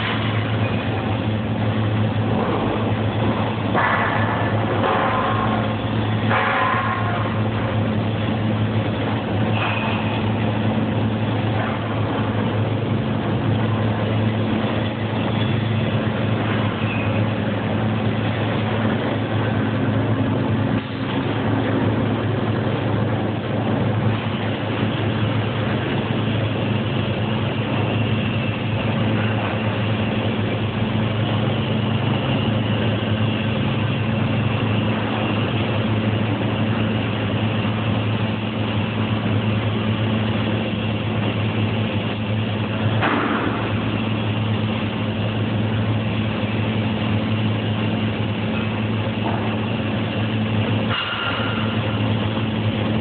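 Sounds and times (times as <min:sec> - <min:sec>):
low hum: 0:00.0 - 0:53.0
welding arc crackling: 0:00.0 - 0:53.0.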